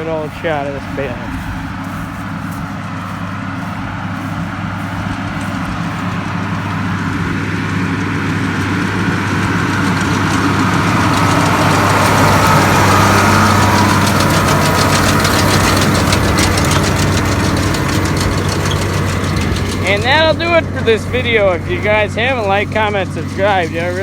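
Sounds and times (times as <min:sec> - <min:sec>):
hay baler machinery clattering: 0:00.0 - 0:24.0
tractor engine under load: 0:00.0 - 0:24.0.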